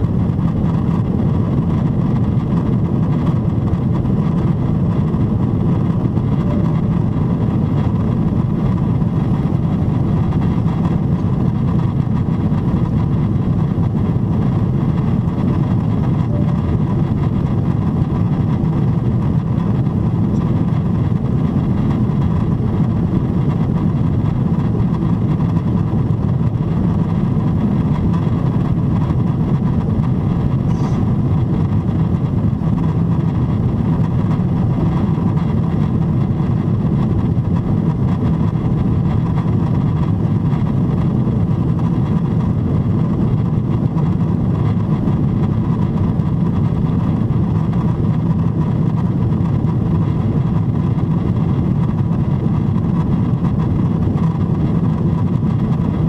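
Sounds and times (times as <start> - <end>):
airflow rushing over fuselage: 0.0 - 56.0
jet engines: 0.0 - 56.0.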